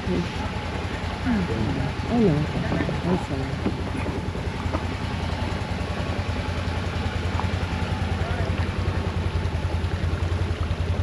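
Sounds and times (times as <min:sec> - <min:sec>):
off-road vehicle engine throbbing: 0:00.0 - 0:11.0.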